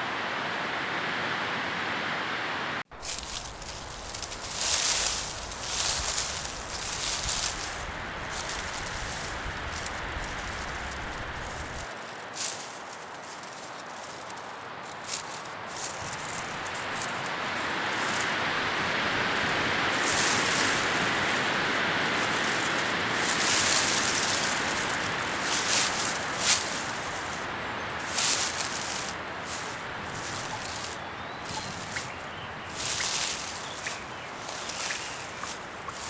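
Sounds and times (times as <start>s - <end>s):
leaves rustling in wind: 0.0s - 36.0s
sharp crackles: 2.9s - 36.0s.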